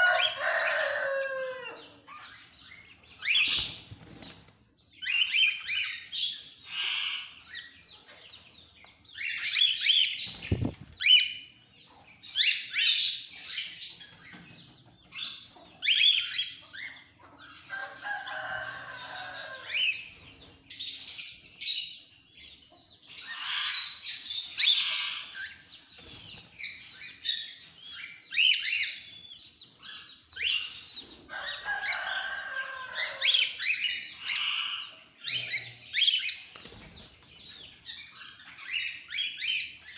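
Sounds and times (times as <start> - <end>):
cockatiels chirping and squawking: 1.8 - 18.0, 19.6 - 32.1, 33.0 - 39.9.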